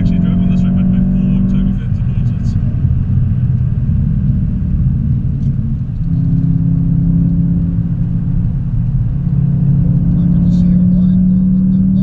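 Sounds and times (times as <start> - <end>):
car engine drone inside cabin: 0.0 - 12.0.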